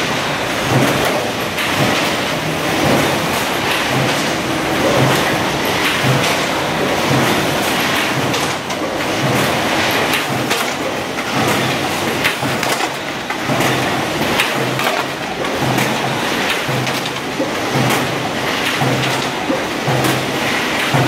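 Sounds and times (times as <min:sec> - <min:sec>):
machinery clattering and clanking: 0:00.0 - 0:21.0.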